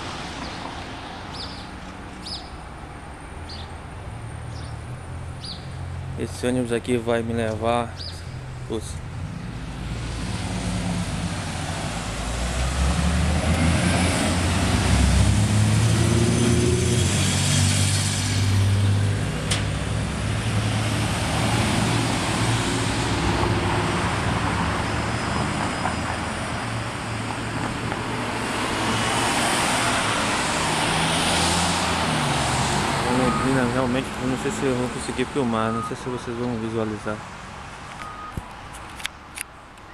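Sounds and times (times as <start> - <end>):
car engines and tyre noise: 0.0 - 39.9.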